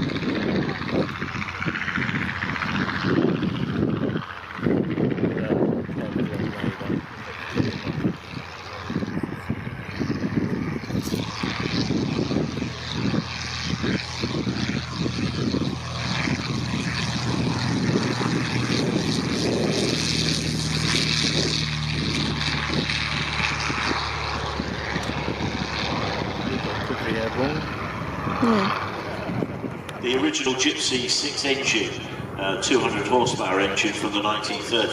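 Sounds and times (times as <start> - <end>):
propeller aircraft engine drone: 0.0 - 34.9
wind buffeting microphone: 0.0 - 34.9.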